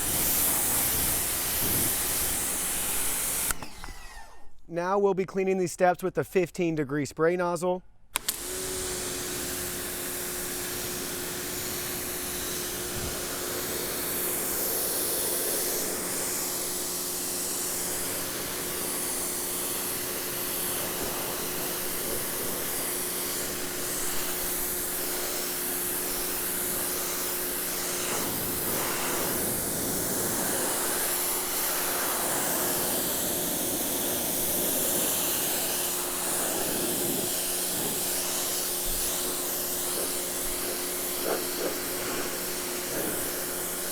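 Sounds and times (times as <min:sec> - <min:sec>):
water jet hissing on steps: 0:00.0 - 0:03.6, 0:08.3 - 0:43.9
pressure washer pump humming: 0:00.0 - 0:04.4, 0:08.1 - 0:43.9.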